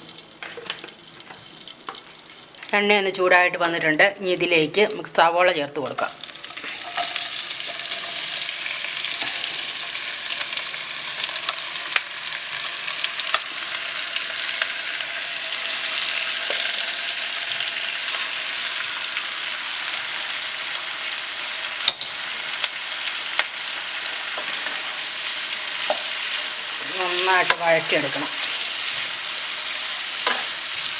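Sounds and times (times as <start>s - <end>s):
onions sizzling in oil: 0.0s - 3.0s, 5.9s - 30.9s.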